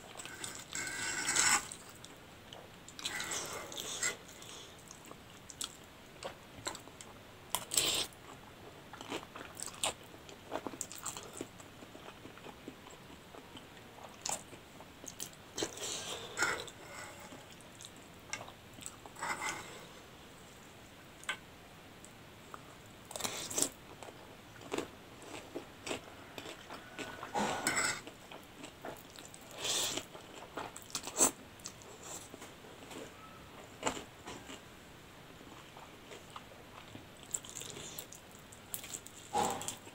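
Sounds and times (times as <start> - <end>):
person chewing noodles: 0.1 - 19.9, 22.5 - 32.4, 35.5 - 39.9.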